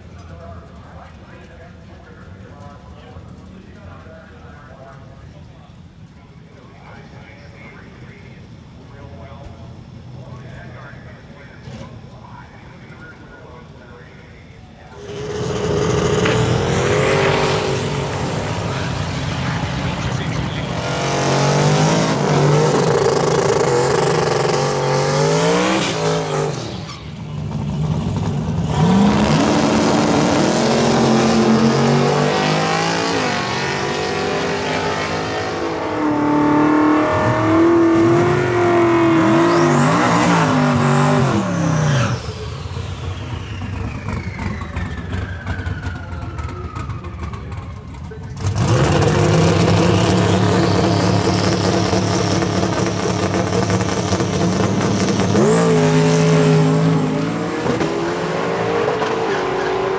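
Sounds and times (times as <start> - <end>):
car engines revving and accelerating: 0.0 - 4.4, 9.6 - 12.2, 14.9 - 59.9.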